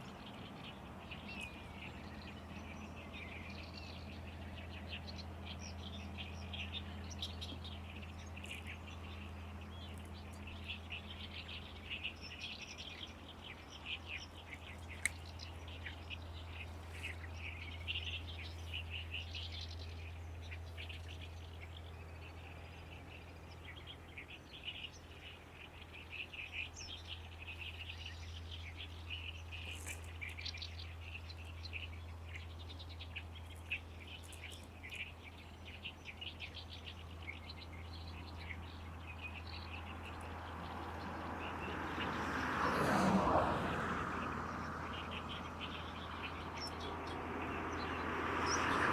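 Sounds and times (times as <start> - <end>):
warbler singing: 0.0 - 48.9.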